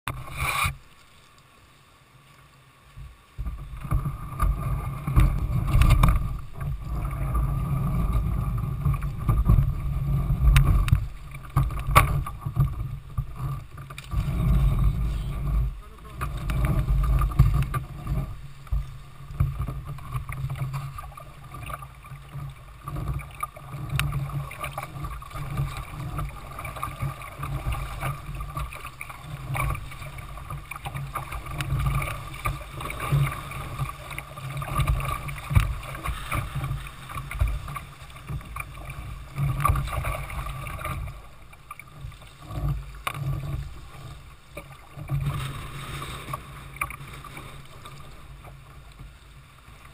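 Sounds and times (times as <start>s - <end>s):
river water rushing: 0.1s - 49.9s
water splashing against kayak hull: 0.1s - 49.9s.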